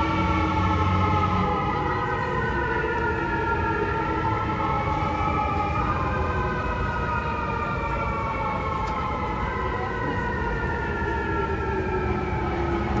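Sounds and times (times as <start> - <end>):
fire truck siren wailing: 0.0 - 13.0
street traffic rumble: 0.0 - 13.0.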